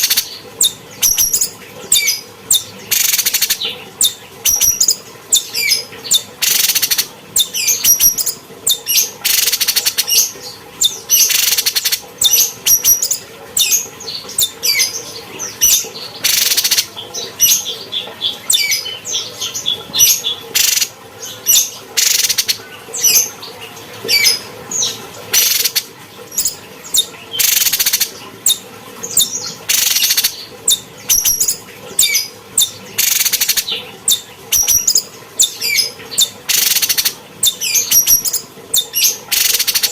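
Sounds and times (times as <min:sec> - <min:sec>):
songbird singing: 0:00.0 - 0:25.8, 0:26.4 - 0:39.9.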